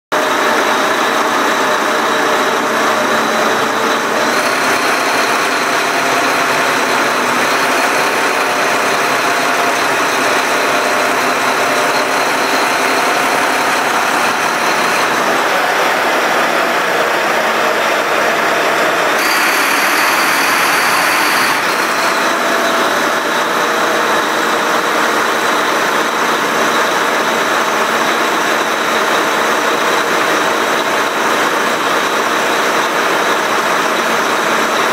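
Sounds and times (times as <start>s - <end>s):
marine diesel engine running: 0.1s - 34.9s
high whine: 0.2s - 29.9s.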